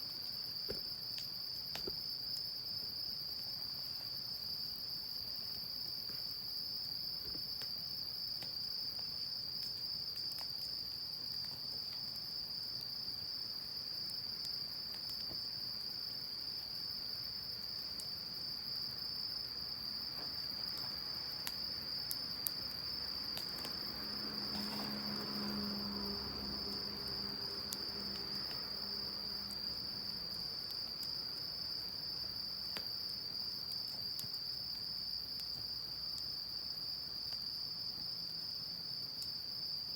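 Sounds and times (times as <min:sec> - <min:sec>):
insects trilling: 0:00.0 - 0:39.9
bonfire crackling: 0:00.1 - 0:39.4.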